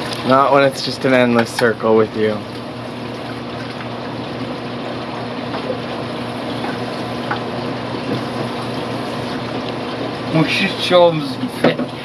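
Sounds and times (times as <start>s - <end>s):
flowing water rushing: 0.0s - 12.0s
low pump hum: 0.0s - 12.0s.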